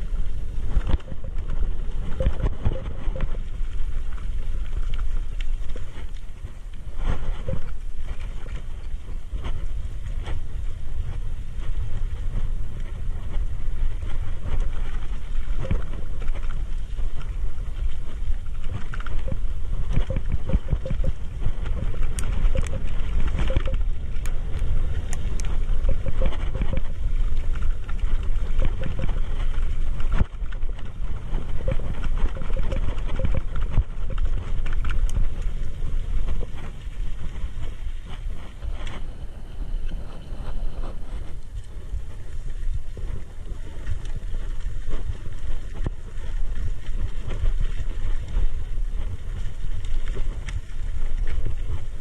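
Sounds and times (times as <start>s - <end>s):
bike rattling and clicking: 0.0s - 52.0s
wind buffeting microphone: 0.0s - 52.0s.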